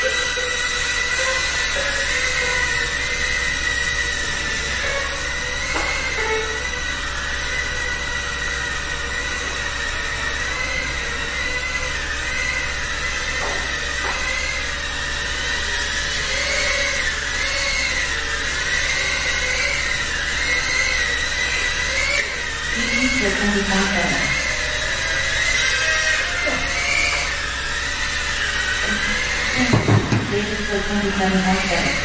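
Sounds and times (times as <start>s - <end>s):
quadcopter motors buzzing: 0.0s - 32.0s.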